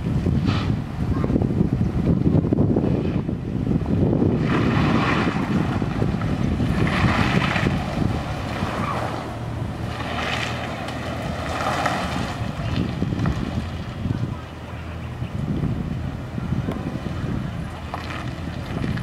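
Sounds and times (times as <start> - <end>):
wind buffeting microphone: 0.0 - 19.0
car engine accelerating: 2.0 - 19.0.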